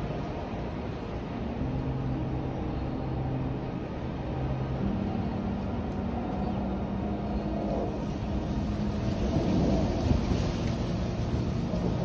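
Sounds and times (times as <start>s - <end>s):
vehicle engine hum: 0.0s - 12.0s
wind gusting on microphone: 0.0s - 12.0s.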